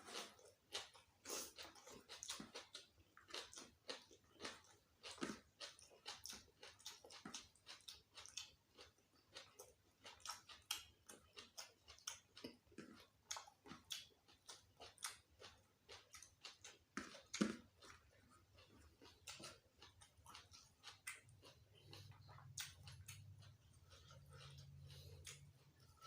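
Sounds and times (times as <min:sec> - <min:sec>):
chewing clicks and smacks: 0:00.1 - 0:26.0.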